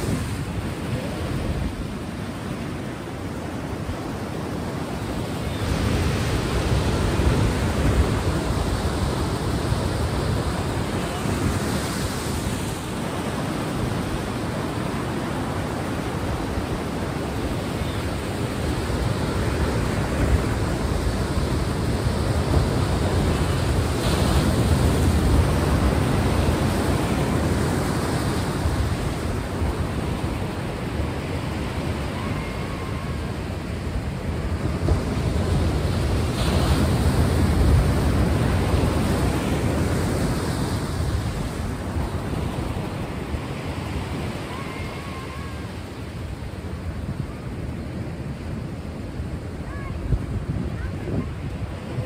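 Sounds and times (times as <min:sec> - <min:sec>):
sea waves washing in: 0:00.0 - 0:52.0.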